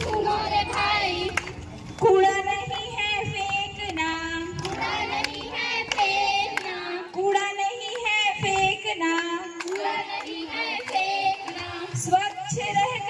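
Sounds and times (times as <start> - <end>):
women singing into microphone: 0.0 - 1.4, 2.0 - 13.0
hand-clapping: 0.0 - 13.0.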